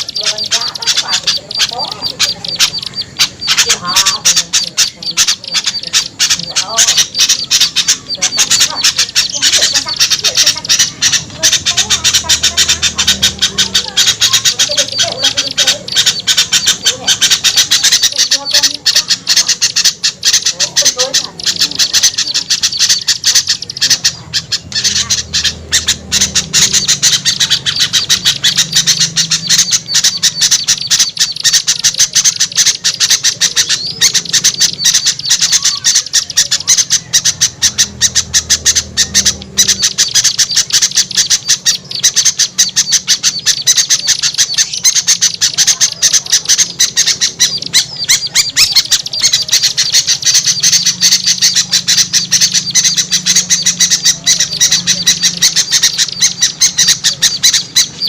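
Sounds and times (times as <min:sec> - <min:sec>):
small birds chattering: 0:00.0 - 0:58.0.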